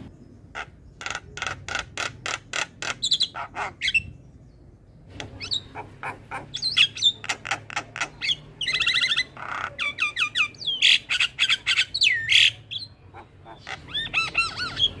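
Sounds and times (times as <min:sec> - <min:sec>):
myna bird singing: 0:00.0 - 0:15.0.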